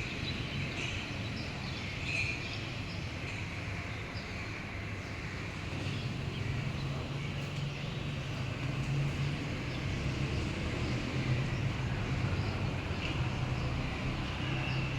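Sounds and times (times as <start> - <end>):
city traffic rumble: 0.0 - 14.9.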